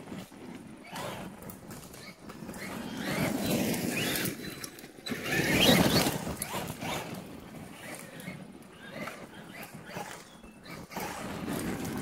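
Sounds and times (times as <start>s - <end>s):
tyres on gravel: 0.0s - 12.0s.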